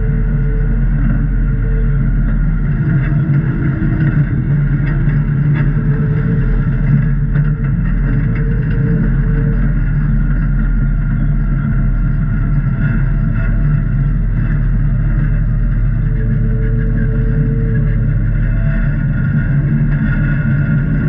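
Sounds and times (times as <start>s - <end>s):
engine running with low rumble: 0.0s - 21.0s.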